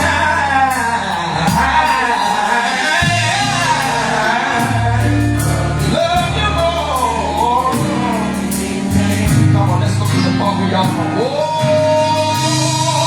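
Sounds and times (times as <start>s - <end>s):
band with bass and cymbals: 0.0s - 13.0s
man singing gospel: 0.0s - 13.0s.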